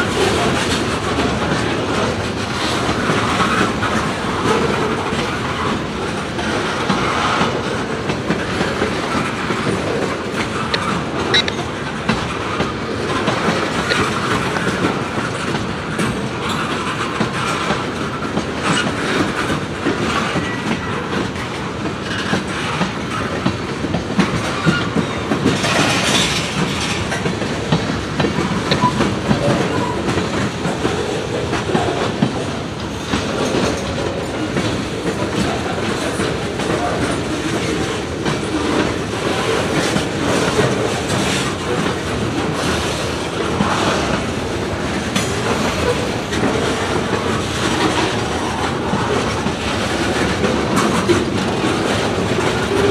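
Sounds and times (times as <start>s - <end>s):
freight train wheels clattering: 0.0s - 52.9s.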